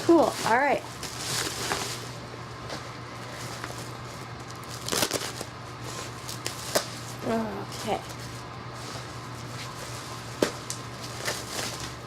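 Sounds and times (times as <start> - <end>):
packaging rustling and crinkling: 0.0 - 7.2, 8.0 - 12.0.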